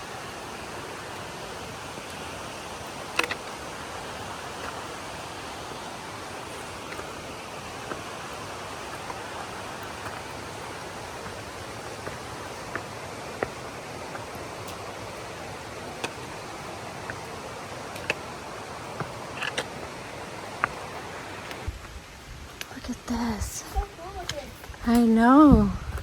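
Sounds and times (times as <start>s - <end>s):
water rushing in a gorge: 0.0s - 21.8s.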